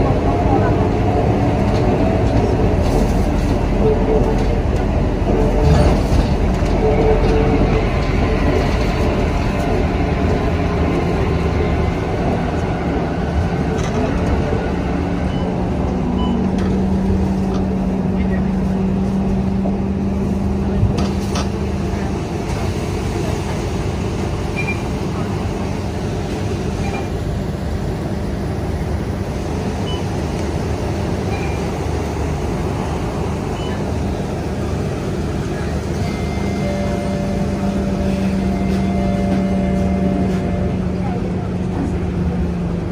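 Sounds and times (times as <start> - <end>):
bus engine running: 0.0 - 42.9
tyres on wet road: 0.0 - 42.9.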